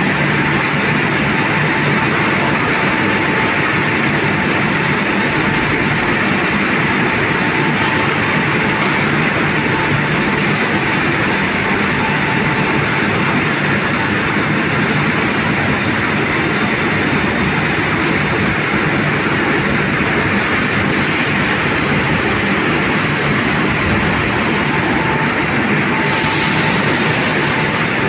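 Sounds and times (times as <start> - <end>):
factory mechanical din: 0.0 - 28.0.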